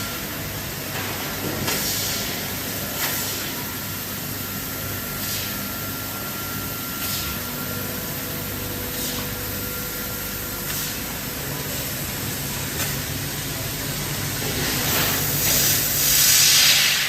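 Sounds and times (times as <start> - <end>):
low machine hum: 0.0 - 17.0
laser cutter hiss: 1.7 - 17.0.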